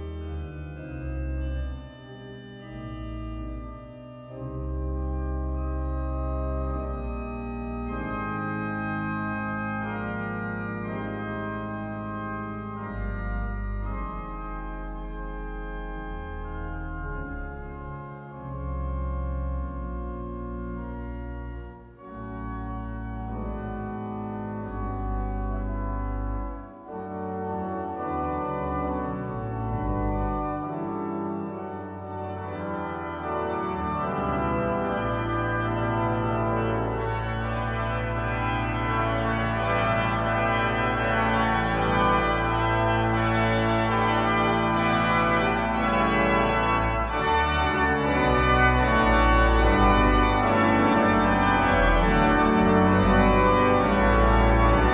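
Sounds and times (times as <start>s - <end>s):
pipe organ playing chords: 0.0s - 54.9s.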